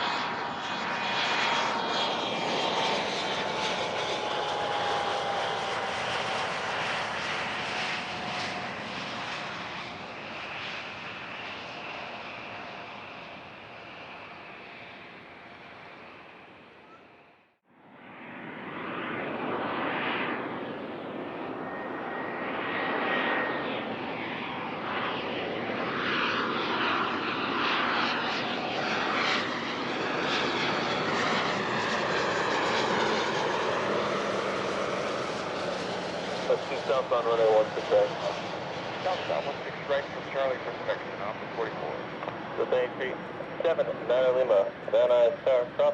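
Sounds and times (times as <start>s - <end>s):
jet engines whining: 0.0s - 17.3s, 17.9s - 45.9s
jet engines shifting whine: 0.0s - 45.9s.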